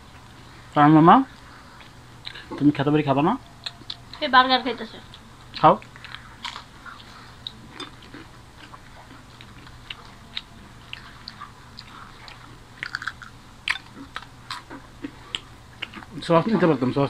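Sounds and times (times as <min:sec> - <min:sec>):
people chewing crunchy food: 0:00.0 - 0:17.0.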